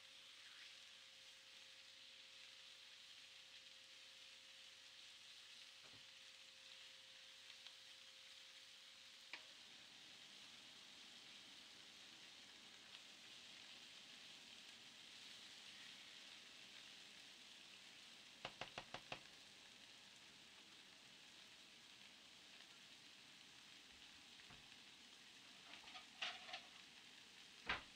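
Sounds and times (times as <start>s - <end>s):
faint steady hiss: 0.0s - 27.9s.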